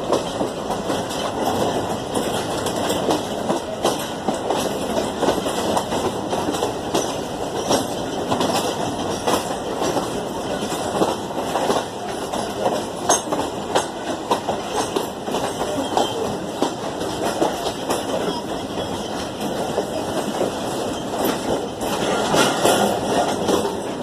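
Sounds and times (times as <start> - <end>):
train rumble: 0.0 - 24.0
train wheels clattering over rail joints: 0.0 - 24.0.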